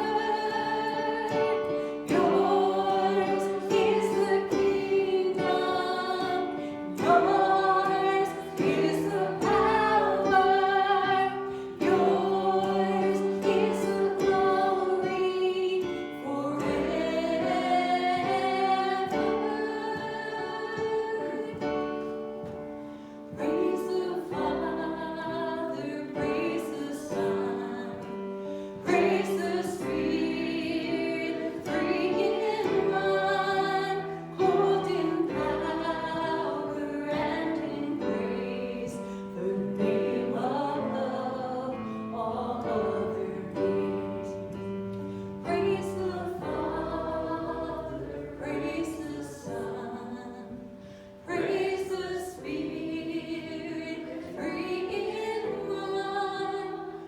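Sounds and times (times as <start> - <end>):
group of voices singing: 0.0 - 57.0.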